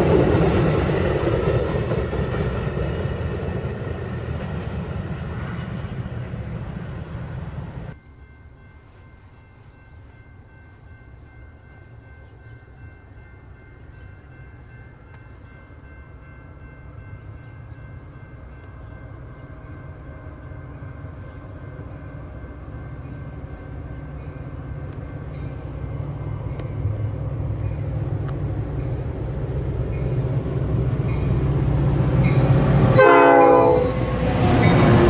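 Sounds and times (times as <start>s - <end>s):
diesel train rumbling: 0.0s - 35.0s.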